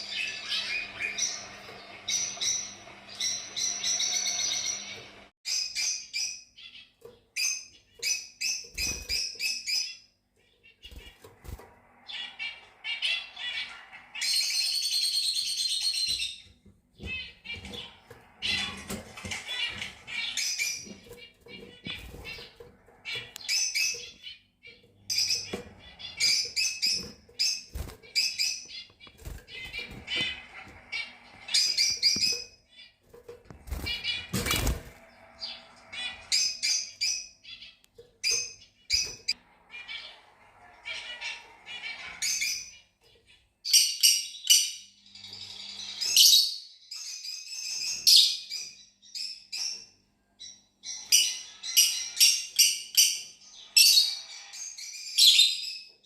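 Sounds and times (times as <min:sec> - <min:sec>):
lovebirds chirping: 0:00.0 - 0:49.8.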